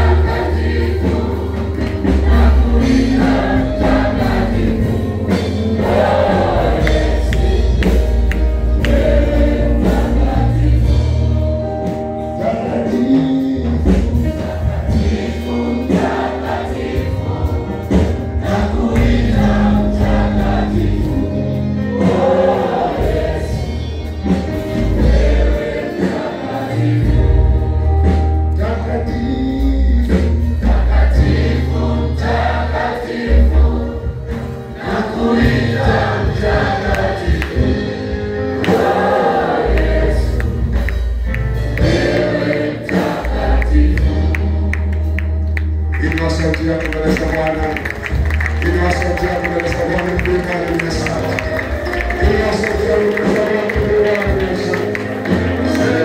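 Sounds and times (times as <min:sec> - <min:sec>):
amplified band with deep bass: 0:00.0 - 0:56.0
congregation singing: 0:00.0 - 0:56.0.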